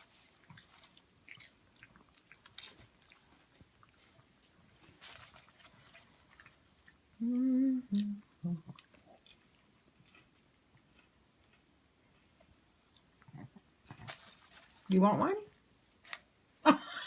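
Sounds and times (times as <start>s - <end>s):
popcorn being chewed: 0.0s - 7.3s, 7.9s - 16.4s.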